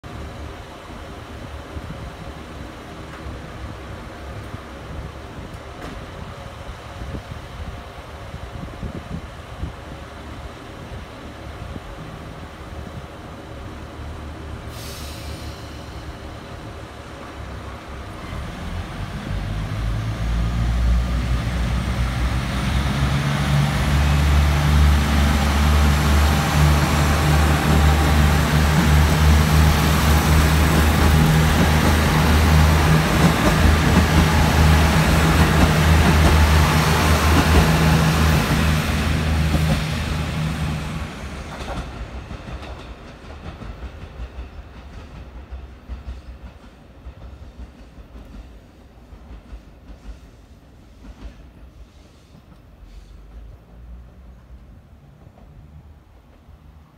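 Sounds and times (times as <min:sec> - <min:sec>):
train wheel and rail noise: 0:00.0 - 0:56.9.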